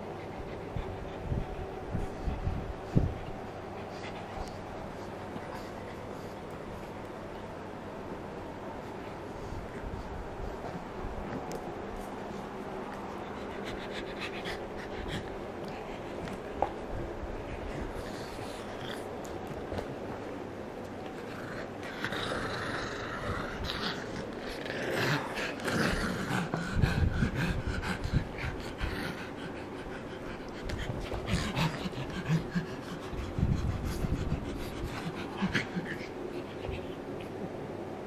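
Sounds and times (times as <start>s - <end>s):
dogs breathing noisily and grunting: 0.0s - 38.0s.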